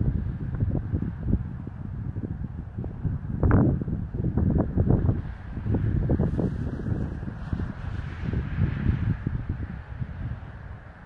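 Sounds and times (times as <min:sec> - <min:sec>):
highway traffic hiss: 0:00.0 - 0:11.0
wind buffeting microphone: 0:00.0 - 0:11.0.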